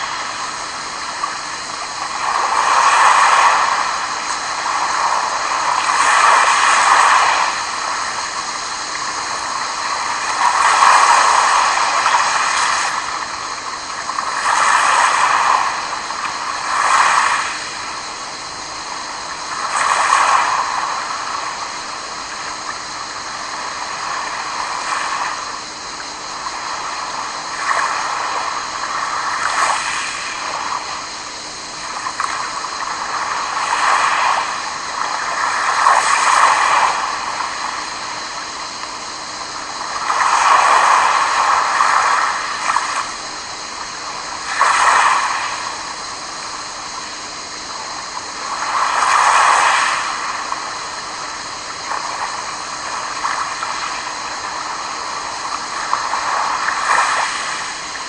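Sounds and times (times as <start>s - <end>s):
waves lapping on pebble beach: 0.0s - 21.6s, 23.0s - 47.0s, 47.7s - 58.0s.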